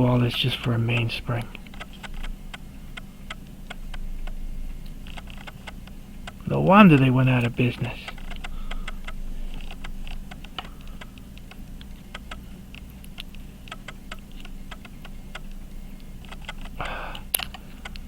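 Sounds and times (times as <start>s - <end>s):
hand tools clicking on watch: 0.0s - 18.0s.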